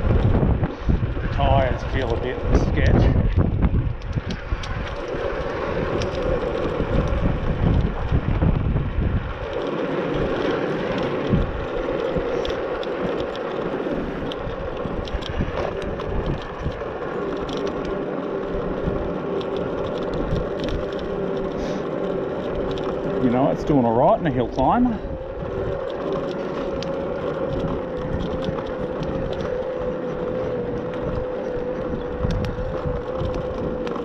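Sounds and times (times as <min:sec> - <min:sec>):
electric scooter motor and tyres: 0:00.0 - 0:34.0
wind on microphone: 0:00.0 - 0:34.0.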